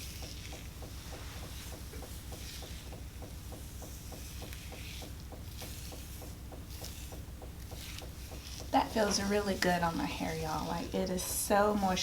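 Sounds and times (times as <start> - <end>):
washing machine rumbling: 0.0 - 12.0.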